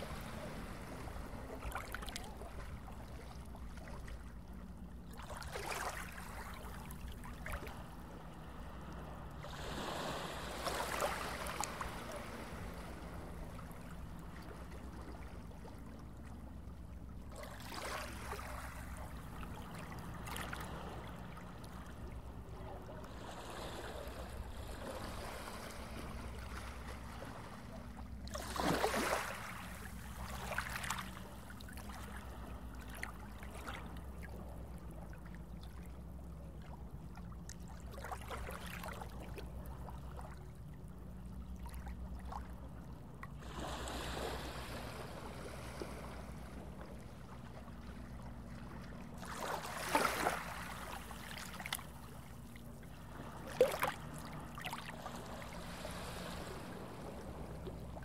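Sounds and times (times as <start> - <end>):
underwater low rumble: 0.0 - 58.0
water swishes: 0.0 - 58.0.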